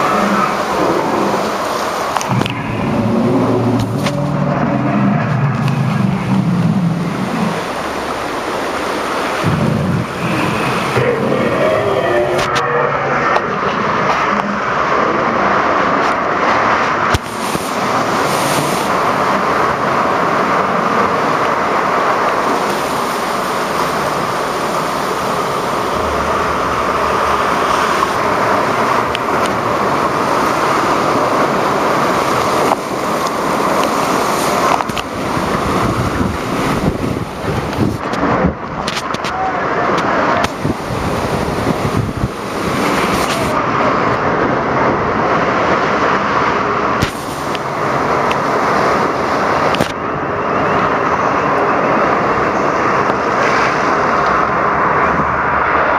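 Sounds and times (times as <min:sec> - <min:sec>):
water rushing through rapids: 0:00.0 - 0:55.9.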